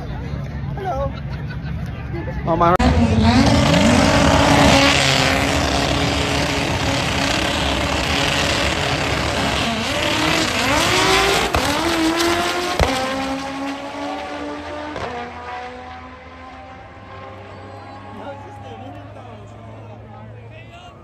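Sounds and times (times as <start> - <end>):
drag-race car engines revving: 0.0 - 21.0.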